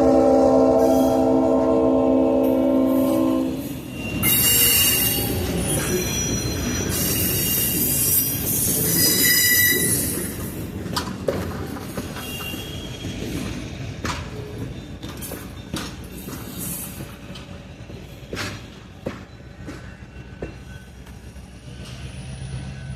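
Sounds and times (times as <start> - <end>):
train rolling rumble: 0.0 - 22.9
train wheels squealing: 2.5 - 10.8, 11.5 - 22.9.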